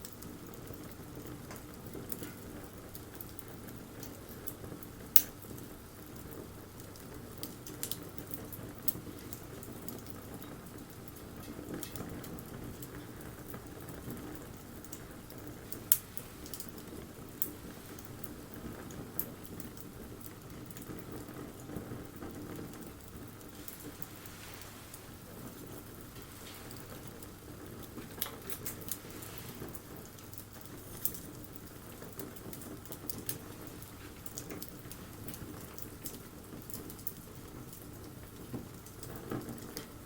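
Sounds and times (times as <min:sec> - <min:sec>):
bonfire flame rushing: 0:00.0 - 0:40.0
fire crackling and popping: 0:00.0 - 0:40.0.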